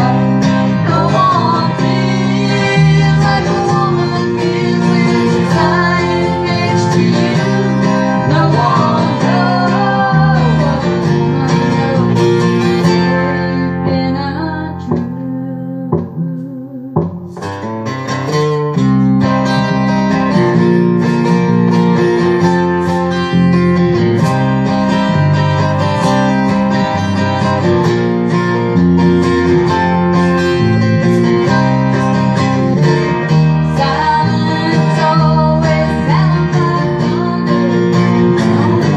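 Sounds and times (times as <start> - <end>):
country band with guitar: 0.0 - 38.9.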